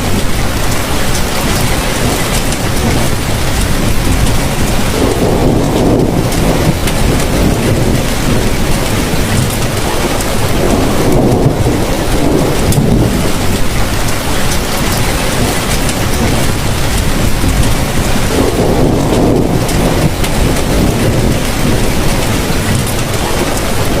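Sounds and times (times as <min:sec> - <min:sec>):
heavy rain falling: 0:00.0 - 0:24.0
low rolling thunder: 0:00.0 - 0:24.0.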